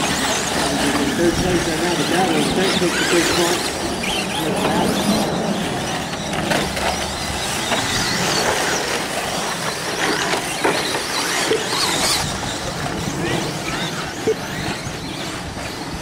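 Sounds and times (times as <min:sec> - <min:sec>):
rc truck motors whining: 0:00.0 - 0:16.0.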